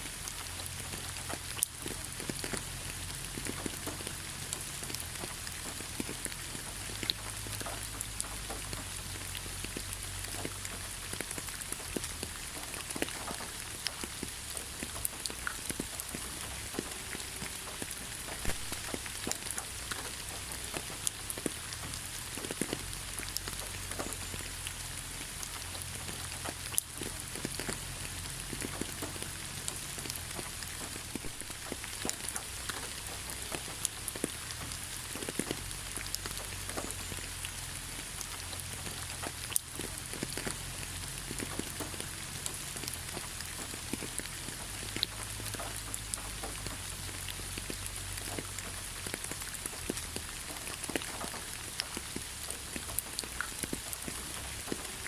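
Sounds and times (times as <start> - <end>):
raindrops striking close by: 0.0 - 55.0
steady rain falling: 0.0 - 55.0.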